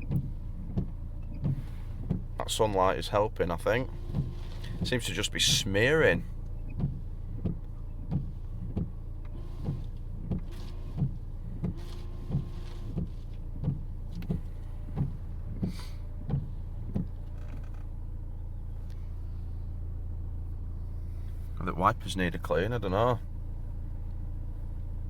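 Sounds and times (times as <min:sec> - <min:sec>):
windscreen wipers sweeping: 0:00.0 - 0:23.2
low engine hum: 0:00.0 - 0:25.0.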